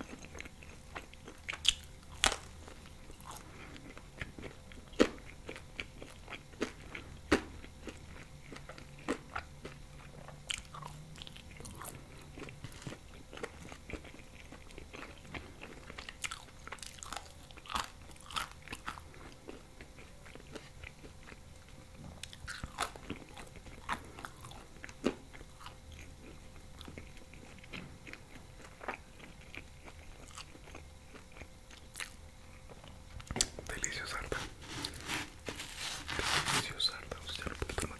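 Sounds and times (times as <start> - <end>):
crunchy chewing: 0.0 - 37.9.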